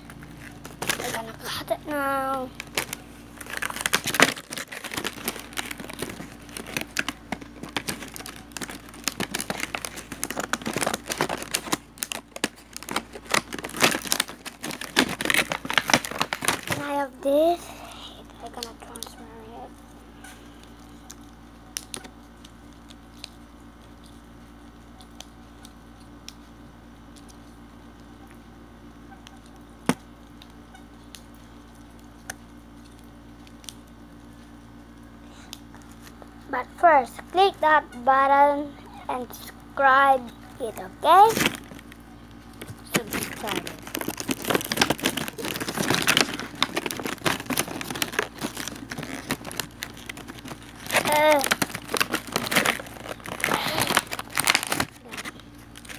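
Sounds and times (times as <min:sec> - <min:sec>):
crinkling and small clicks: 0:00.0 - 0:17.4, 0:18.2 - 0:28.5, 0:29.2 - 0:37.6, 0:39.2 - 0:55.9.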